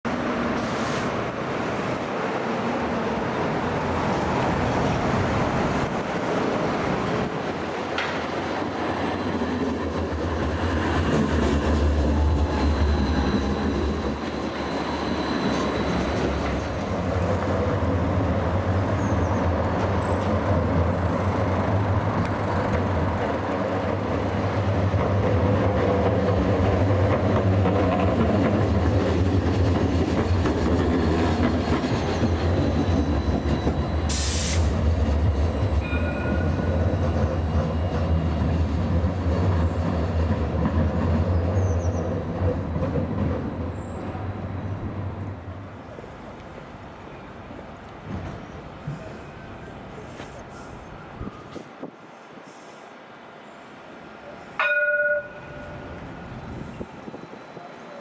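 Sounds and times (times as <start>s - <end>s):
street noise: 0.0s - 58.0s
tram hum and wheels on rail: 0.1s - 58.0s.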